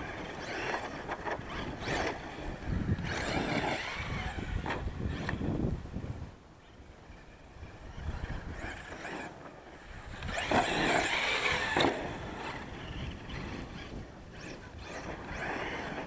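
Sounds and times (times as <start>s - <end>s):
rc truck motor whining: 0.0s - 5.7s, 6.6s - 16.0s.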